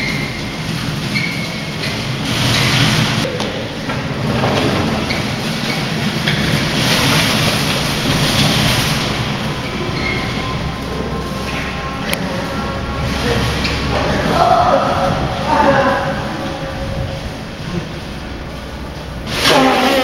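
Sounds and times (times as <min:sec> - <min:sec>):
wheels rumbling over concrete: 0:00.0 - 0:20.0.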